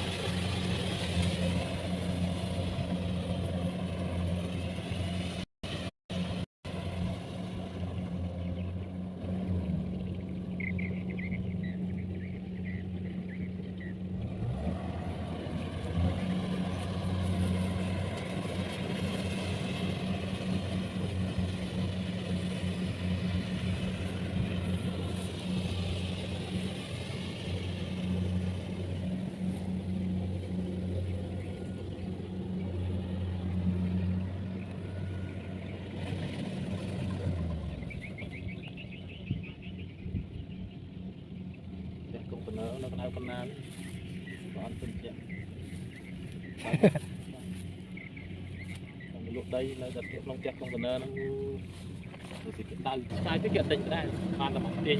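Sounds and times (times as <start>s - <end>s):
harvester engine running: 0.0s - 54.9s.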